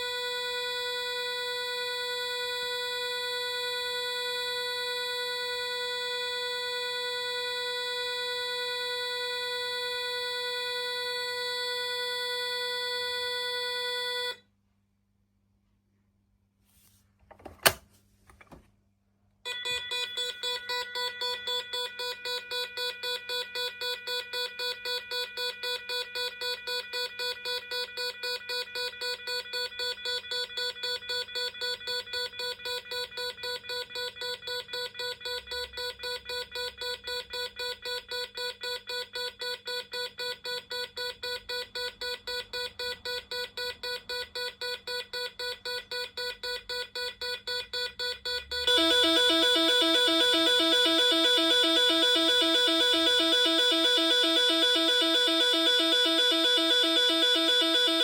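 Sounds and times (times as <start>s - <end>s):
pulsing alarm tone: 0.0s - 14.4s, 19.5s - 58.0s
steady alarm tone: 0.0s - 14.4s, 19.5s - 58.0s.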